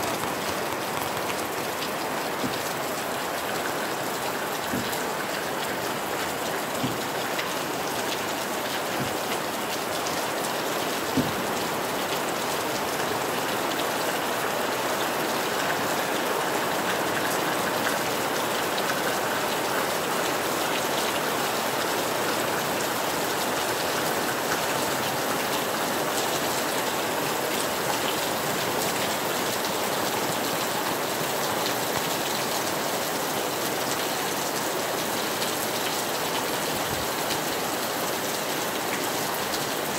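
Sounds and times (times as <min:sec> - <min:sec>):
rain on sand and vegetation: 0:00.0 - 0:39.9.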